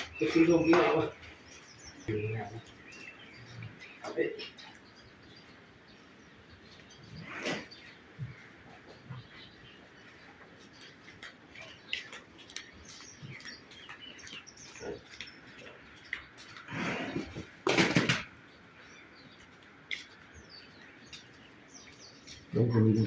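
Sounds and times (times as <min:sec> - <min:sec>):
bird chirps: 0:00.0 - 0:23.0.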